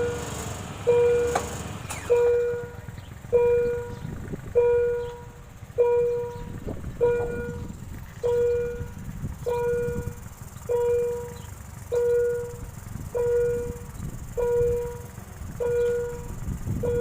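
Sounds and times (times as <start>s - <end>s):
level crossing warning bell ringing: 0.0s - 17.0s
low rumble: 2.2s - 17.0s.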